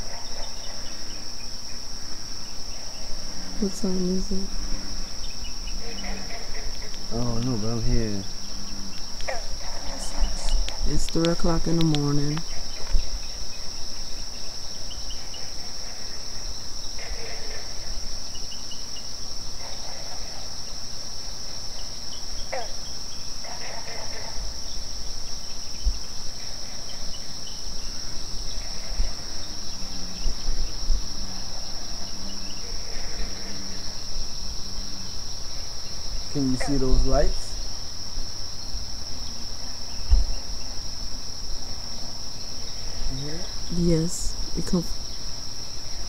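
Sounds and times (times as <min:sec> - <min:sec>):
crickets trilling: 0:00.0 - 0:46.0.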